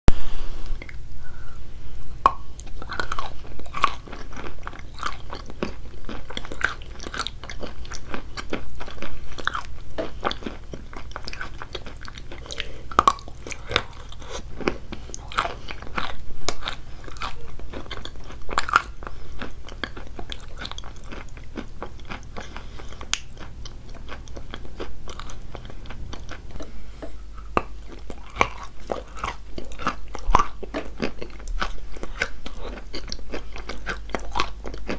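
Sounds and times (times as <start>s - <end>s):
crunchy biting and chewing: 2.2s - 34.9s.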